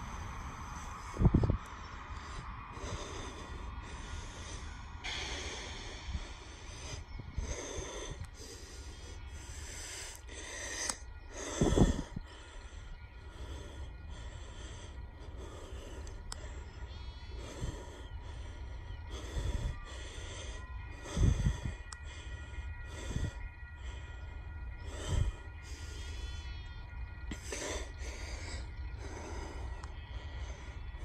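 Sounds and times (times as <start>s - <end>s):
wind buffeting microphone: 0.0s - 27.4s.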